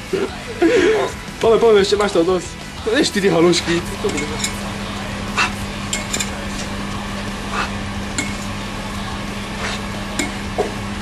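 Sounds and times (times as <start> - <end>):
steady hiss and hum: 0.0 - 11.0.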